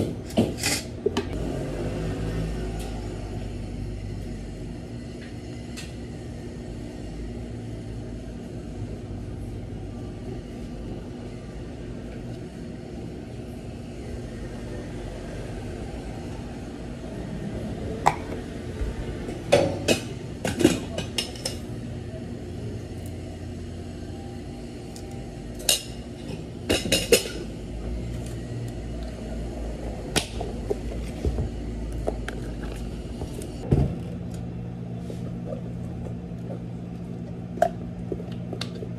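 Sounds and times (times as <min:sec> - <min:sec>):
low hum of cafe machines: 0:00.0 - 0:38.9.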